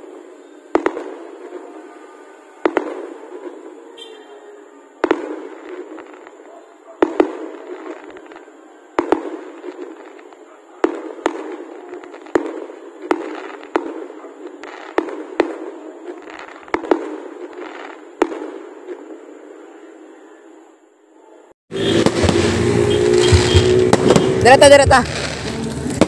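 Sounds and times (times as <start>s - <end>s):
fireworks bangs: 0.0s - 20.2s, 21.7s - 26.0s.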